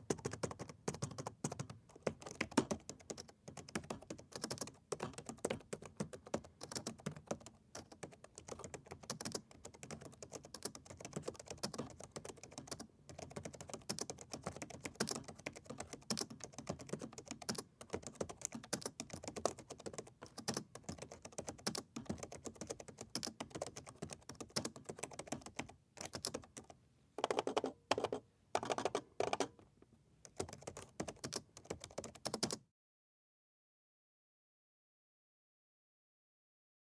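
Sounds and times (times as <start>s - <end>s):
fast typing on laptop keyboard: 0.0s - 29.6s, 30.3s - 32.6s.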